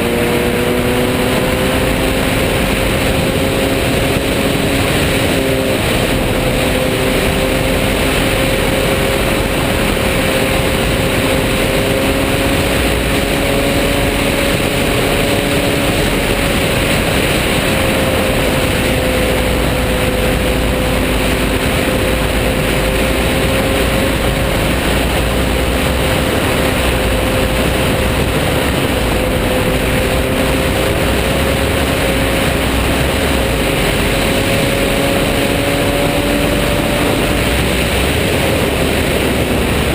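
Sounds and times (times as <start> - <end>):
motorcycle engine droning: 0.0 - 39.9
wind rush: 0.0 - 39.9.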